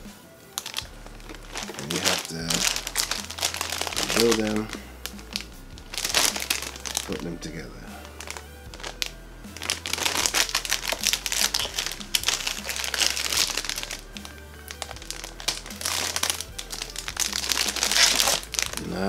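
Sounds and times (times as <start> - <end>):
background music with bass line: 0.0 - 19.0
plastic bags crinkling: 0.0 - 19.0.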